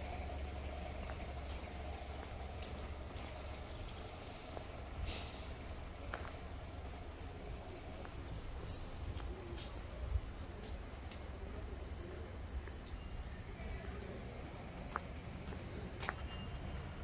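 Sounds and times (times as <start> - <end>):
low steady street rumble: 0.0 - 17.0.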